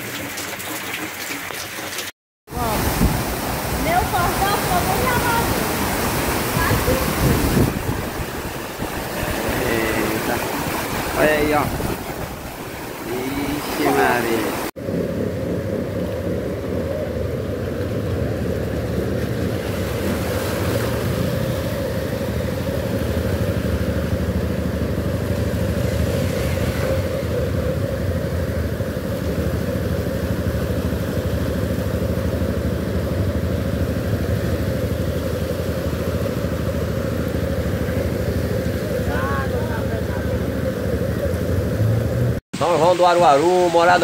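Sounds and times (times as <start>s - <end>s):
water rushing and splashing: 0.0s - 44.0s
motorcycle and car engines: 2.6s - 44.0s.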